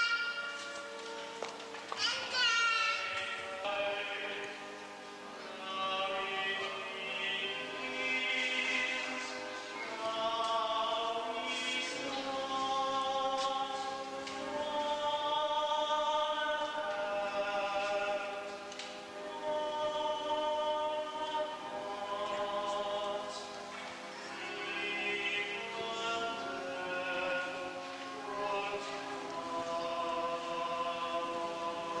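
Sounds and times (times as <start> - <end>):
choir singing a hymn: 3.1 - 32.0.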